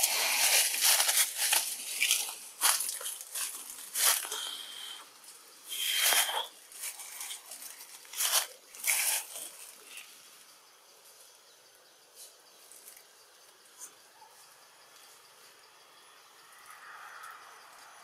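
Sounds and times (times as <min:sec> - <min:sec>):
leaves and branches rustling: 0:00.0 - 0:14.5.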